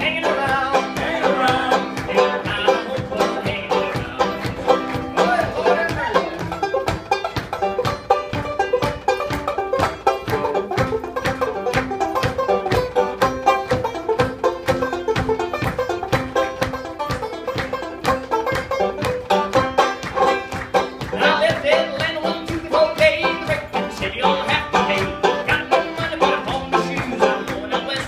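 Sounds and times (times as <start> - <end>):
banjo picking: 0.0 - 28.0
hand claps: 0.1 - 28.0.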